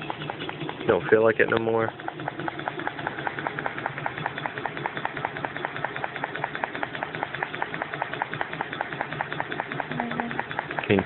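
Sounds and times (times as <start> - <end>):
machine rapid ticking pulse: 0.0 - 11.0.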